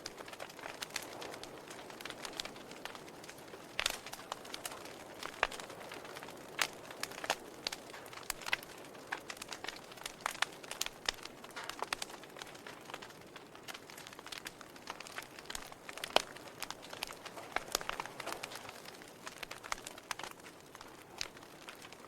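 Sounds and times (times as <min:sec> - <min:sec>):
logs crackling and popping: 0:00.0 - 0:22.0
soft steady hiss: 0:00.0 - 0:22.0.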